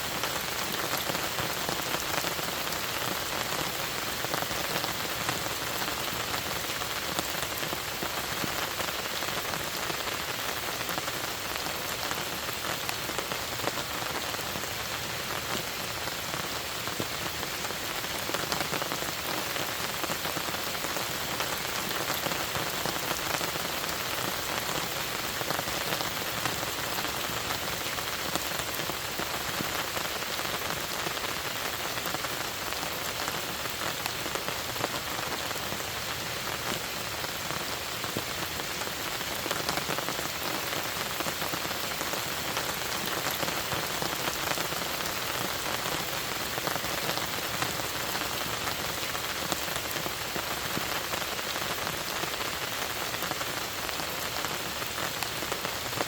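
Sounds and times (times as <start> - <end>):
rain falling on a lake: 0.0 - 56.0.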